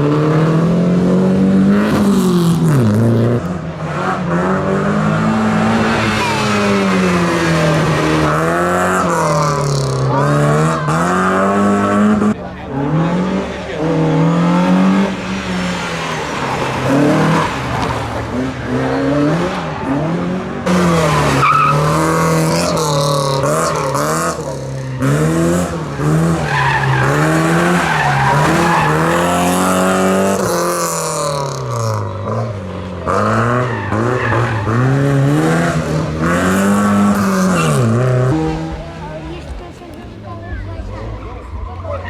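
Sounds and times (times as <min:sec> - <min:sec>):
rally car engines revving: 0:00.0 - 0:42.0
tyres skidding and squealing: 0:00.0 - 0:42.0.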